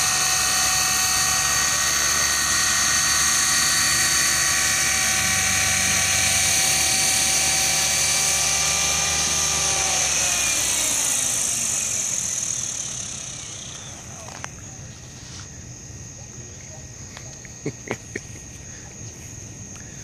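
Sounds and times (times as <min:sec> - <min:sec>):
helicopter motor and rotor whine: 0:00.0 - 0:20.0.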